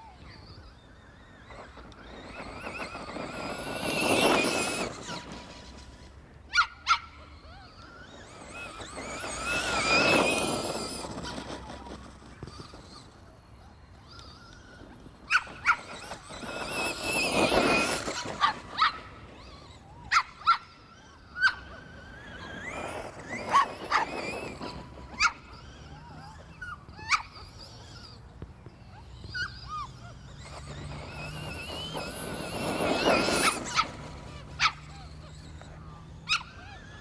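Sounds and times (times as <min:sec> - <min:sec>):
rc truck motor whine: 0:00.0 - 0:37.0.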